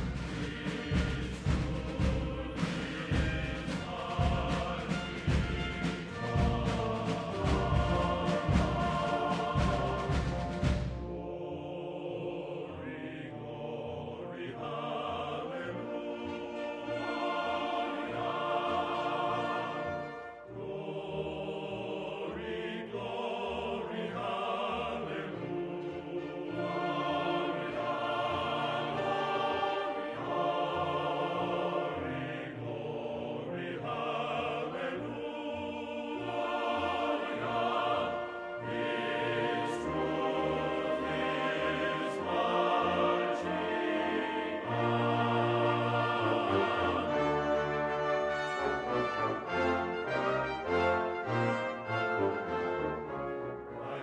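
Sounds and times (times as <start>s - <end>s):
choir singing long notes: 0.0s - 54.0s
orchestral music: 0.0s - 54.0s.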